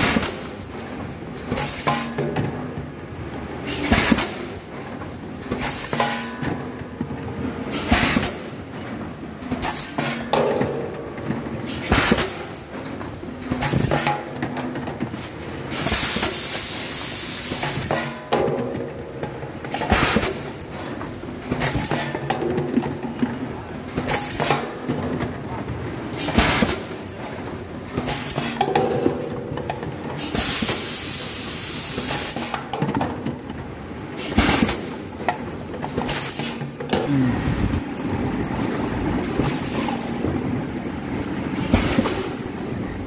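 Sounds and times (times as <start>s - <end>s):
machine clack and air blast: 0.0s - 2.9s, 3.6s - 25.3s, 26.1s - 33.4s, 34.1s - 40.2s, 41.5s - 43.0s.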